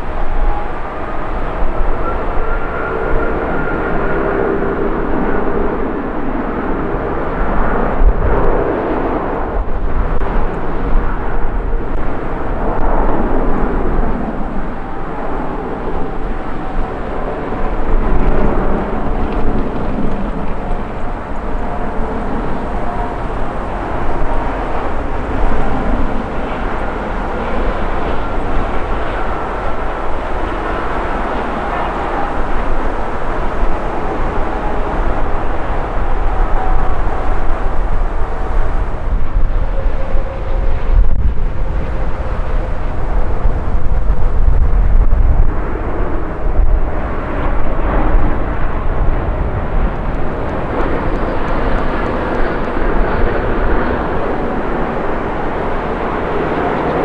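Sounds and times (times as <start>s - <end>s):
faint engine whine: 0.0s - 57.0s
jet engines rumbling: 0.0s - 57.0s.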